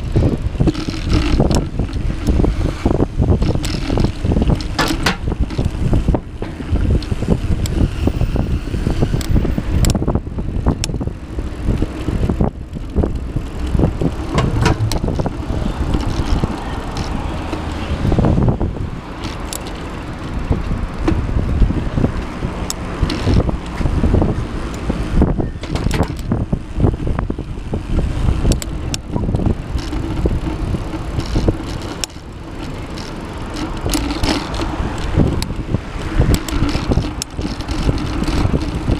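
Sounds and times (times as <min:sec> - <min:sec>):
bicycle rattling over bumps: 0:00.0 - 0:38.9
bicycle tyre and frame rumble: 0:00.0 - 0:38.9
wind buffeting microphone: 0:00.0 - 0:38.9.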